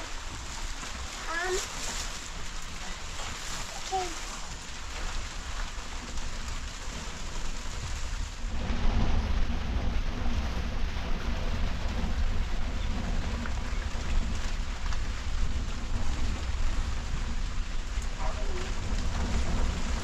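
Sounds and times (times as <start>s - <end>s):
deep rumble: 0.0s - 20.0s
heavy rain falling: 0.0s - 20.0s.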